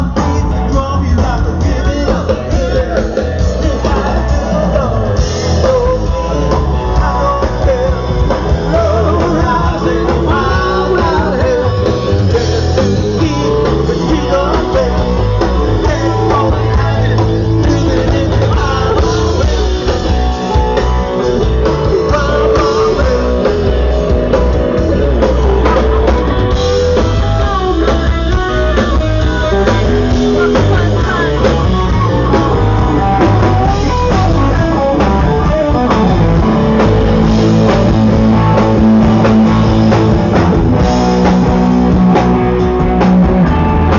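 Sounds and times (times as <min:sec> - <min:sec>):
person singing: 0:00.0 - 0:40.2
bass guitar: 0:00.0 - 0:43.9
drums: 0:00.0 - 0:43.9
electric guitar: 0:00.0 - 0:43.9.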